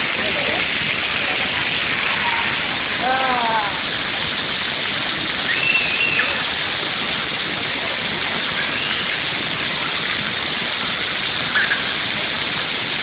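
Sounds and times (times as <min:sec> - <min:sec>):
fountain jets spraying water: 0:00.0 - 0:13.0.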